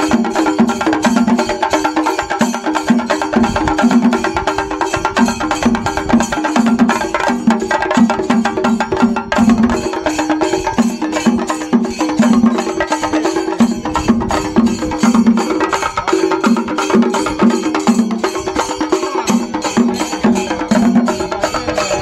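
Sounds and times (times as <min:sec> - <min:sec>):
drums beaten with sticks: 0:00.0 - 0:22.0
small hand cymbals: 0:00.0 - 0:22.0.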